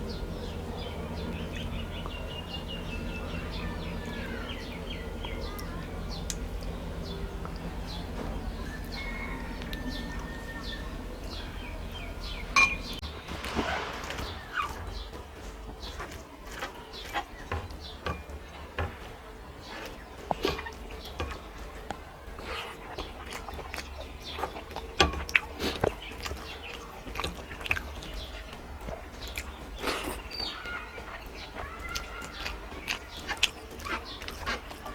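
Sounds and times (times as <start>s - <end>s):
low steady hum: 0.0s - 34.9s
person chewing food: 0.0s - 34.9s.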